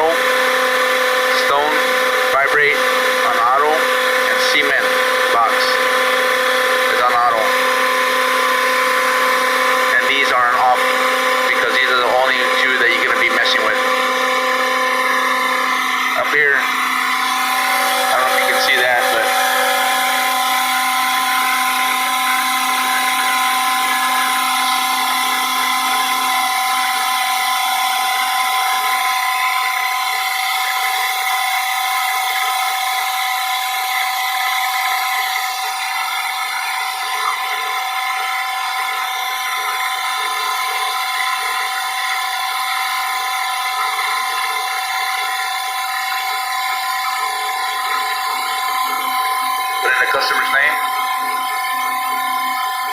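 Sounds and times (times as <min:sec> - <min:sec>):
concrete truck mechanical whine: 0:00.0 - 0:52.9.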